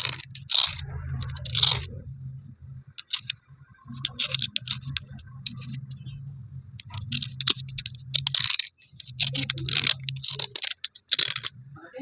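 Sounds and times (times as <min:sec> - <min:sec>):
slate pencil pieces clicking: 0:00.0 - 0:01.9, 0:03.0 - 0:06.1, 0:06.8 - 0:11.6
gritty rubbing: 0:00.0 - 0:12.0.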